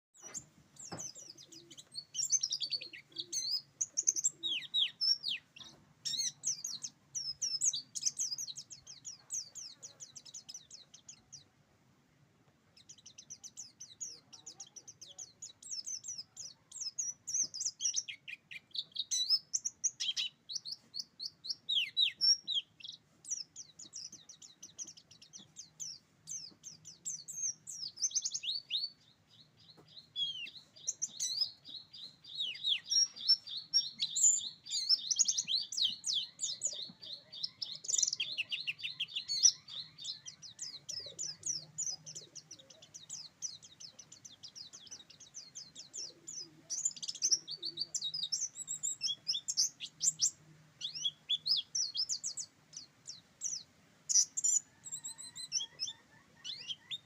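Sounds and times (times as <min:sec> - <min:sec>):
bird twittering and trilling: 0:00.2 - 0:11.6, 0:12.6 - 0:57.0.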